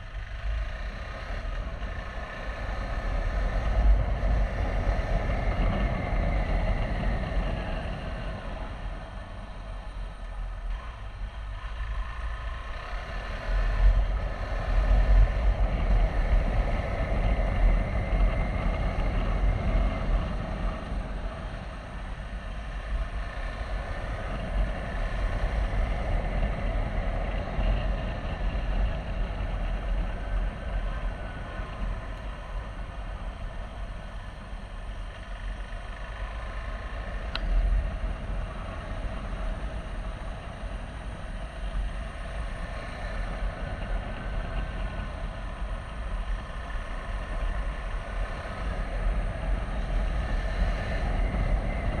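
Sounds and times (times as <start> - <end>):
motorcycle engine running: 0.0 - 52.0
wind rumble on microphone: 0.0 - 52.0.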